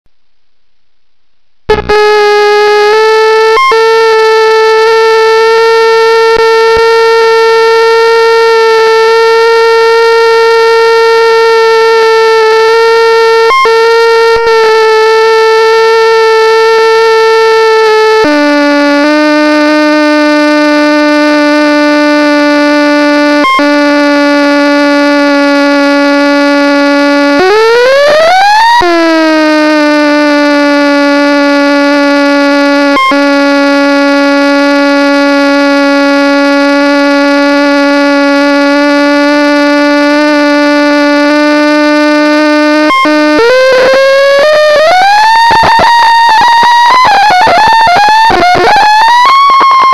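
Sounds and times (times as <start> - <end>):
loud electronic tone: 1.7 - 49.9.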